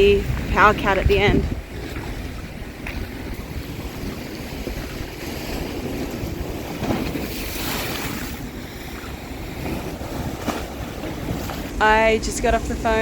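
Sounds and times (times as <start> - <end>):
rough waves: 0.0 - 13.0
wind buffeting microphone: 0.0 - 13.0.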